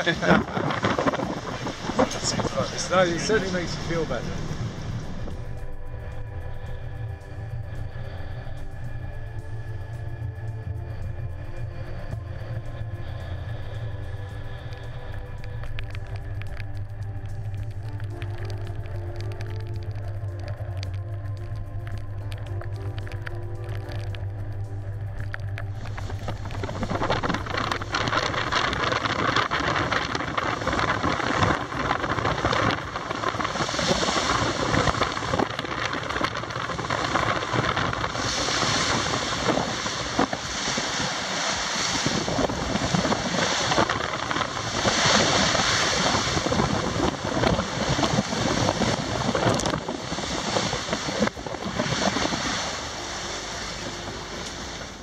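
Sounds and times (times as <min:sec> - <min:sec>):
waves rushing along hull: 0:00.0 - 0:55.0
wind buffeting microphone: 0:00.0 - 0:55.0.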